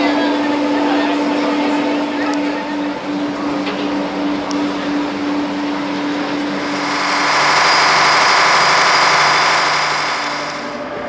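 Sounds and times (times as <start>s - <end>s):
engine-room machinery drone: 0.0s - 11.0s.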